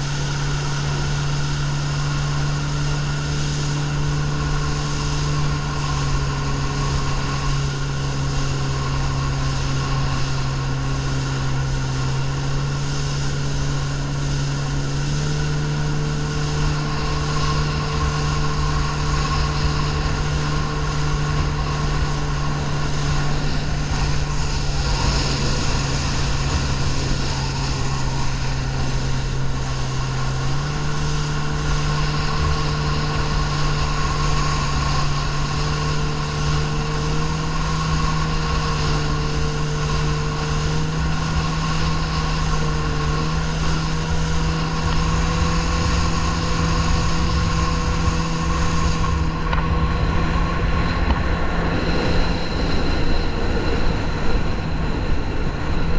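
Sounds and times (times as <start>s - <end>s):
water rushing and spraying: 0.0s - 55.9s
watercraft engine running: 0.0s - 55.9s.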